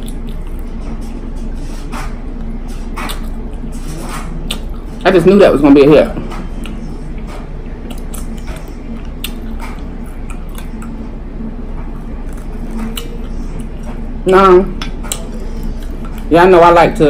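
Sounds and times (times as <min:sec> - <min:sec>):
wet chewing of crunchy food: 0:00.0 - 0:05.1, 0:06.3 - 0:16.3.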